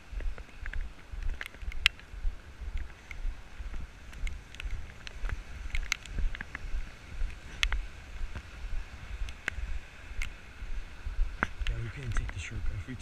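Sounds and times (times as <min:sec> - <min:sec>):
footsteps on wet ground: 0:00.0 - 0:13.0
rain ticking on camera: 0:00.0 - 0:13.0
wind buffeting microphone: 0:00.0 - 0:13.0.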